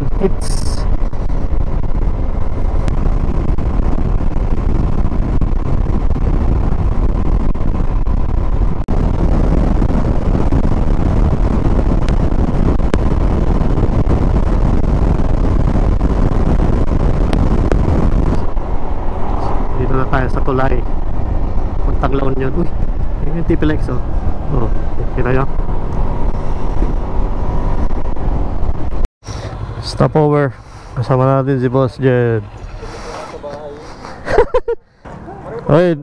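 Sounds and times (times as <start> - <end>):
wind rushing on microphone: 0.0 - 29.7.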